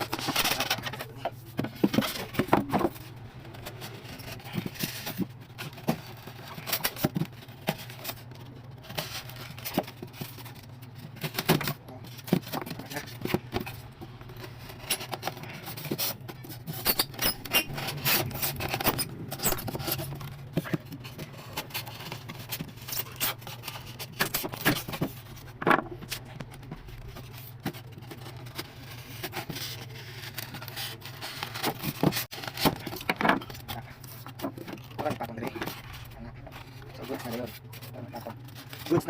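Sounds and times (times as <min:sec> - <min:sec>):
low steady hum: 0:00.0 - 0:39.0
scraping and rubbing: 0:00.0 - 0:39.0.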